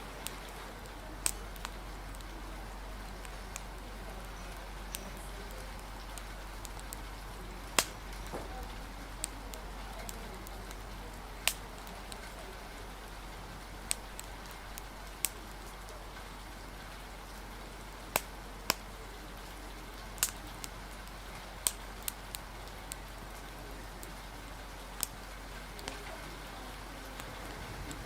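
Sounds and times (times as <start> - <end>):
fire crackling pops: 0.0 - 28.0
steady rain hiss: 0.0 - 28.0.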